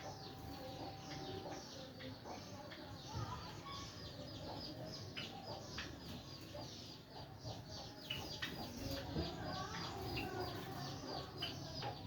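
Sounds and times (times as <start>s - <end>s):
sparrows chirping: 0.0s - 12.0s.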